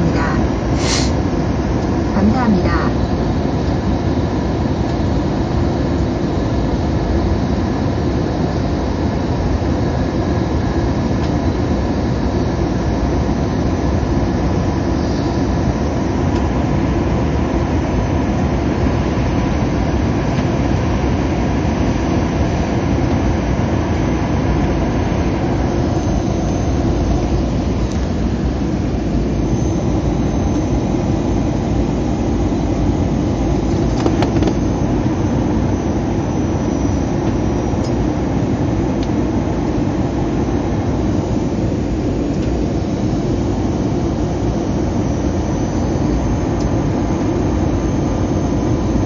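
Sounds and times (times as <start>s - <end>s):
jet engine cabin rumble: 0.0s - 49.0s.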